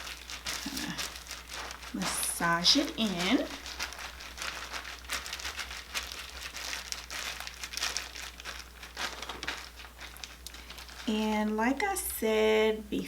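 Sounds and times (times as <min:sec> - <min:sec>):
plastic cap crinkling and rustling: 0:00.0 - 0:11.6.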